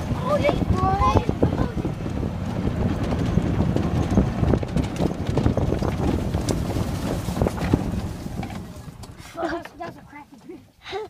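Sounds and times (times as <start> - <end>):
wind on microphone: 0.0 - 9.2
golf cart rumbling on gravel: 0.0 - 10.2
rattles and knocks over bumps: 0.0 - 10.6.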